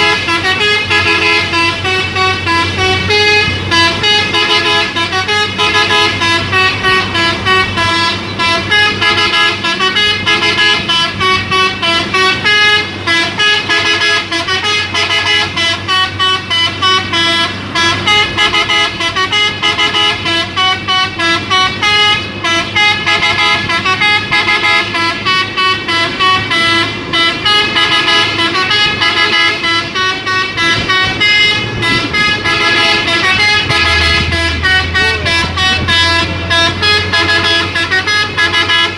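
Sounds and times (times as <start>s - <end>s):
multi-tone horn playing a tune: 0.0s - 38.9s
truck engine running low: 0.0s - 38.9s.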